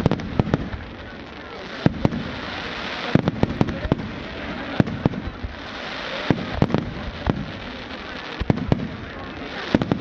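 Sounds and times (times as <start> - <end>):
firework bangs: 0.0 - 10.0
steady hiss: 0.0 - 10.0.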